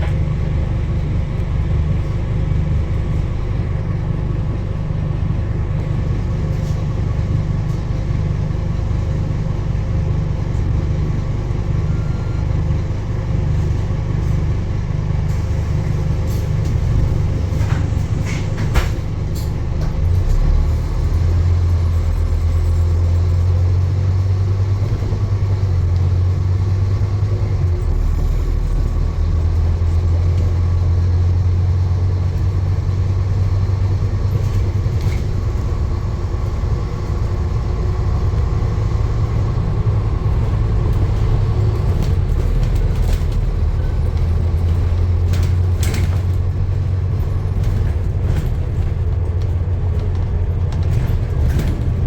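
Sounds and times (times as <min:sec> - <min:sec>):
moving vehicle rumble: 0:00.0 - 0:52.0.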